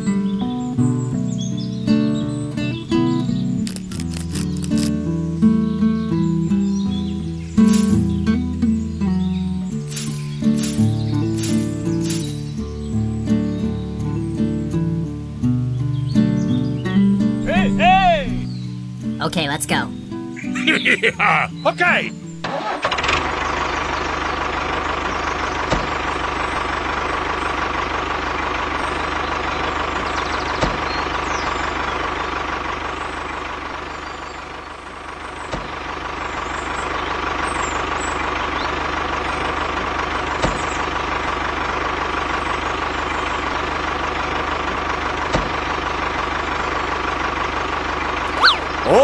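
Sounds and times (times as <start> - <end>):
tractor diesel engine running: 0.0 - 15.4, 16.7 - 49.0.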